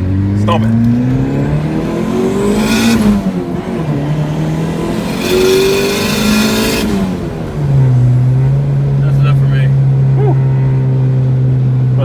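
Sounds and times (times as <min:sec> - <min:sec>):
car engine revving under acceleration: 0:00.0 - 0:12.0.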